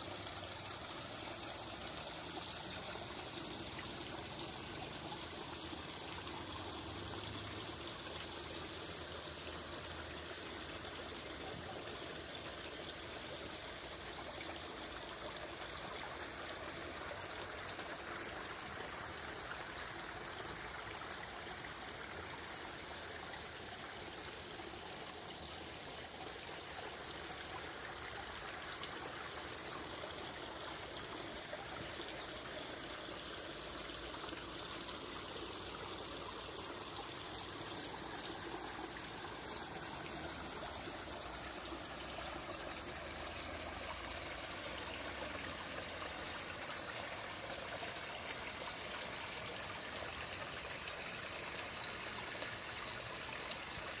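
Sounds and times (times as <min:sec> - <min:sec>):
creek trickling over stones: 0:00.0 - 0:54.0.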